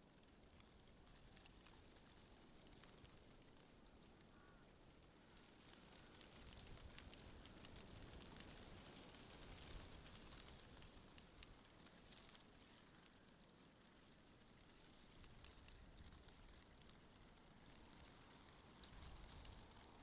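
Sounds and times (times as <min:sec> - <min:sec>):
light crackles: 0:00.0 - 0:20.0
wind rustling tree leaves: 0:00.4 - 0:20.0.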